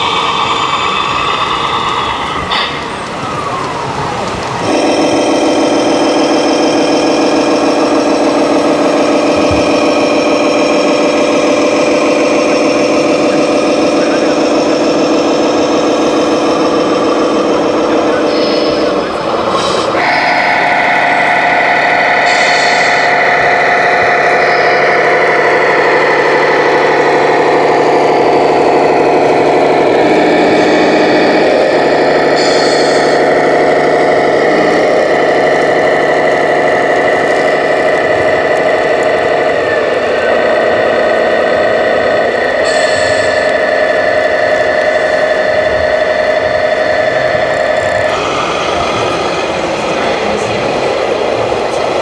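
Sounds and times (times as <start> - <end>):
simulated diesel engine running: 0.0 - 52.0.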